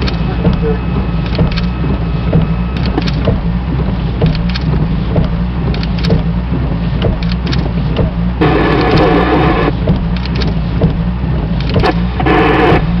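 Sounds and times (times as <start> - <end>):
rattles and knocks: 0.0 - 12.8
vehicle engine and road rumble: 0.0 - 13.0.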